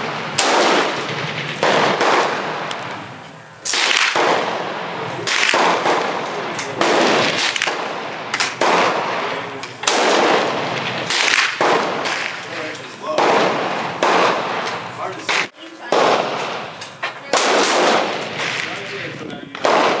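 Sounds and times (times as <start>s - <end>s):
gunshots with echoing tail: 0.0s - 20.0s.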